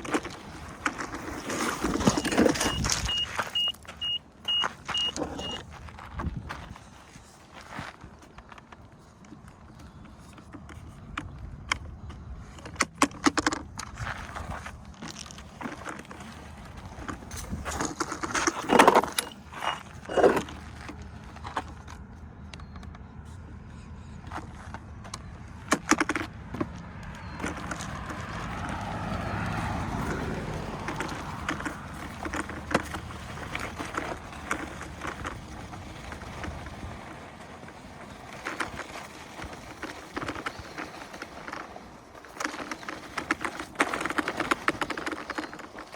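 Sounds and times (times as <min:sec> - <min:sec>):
clicks and knocks from trail: 0:00.0 - 0:45.9
low tyre rumble: 0:00.0 - 0:45.9.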